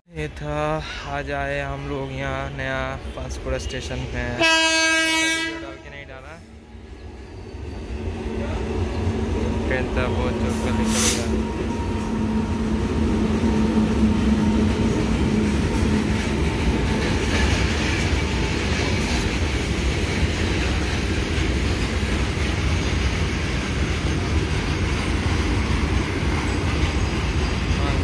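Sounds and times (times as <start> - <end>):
freight train rolling on rails: 0.2 - 28.0.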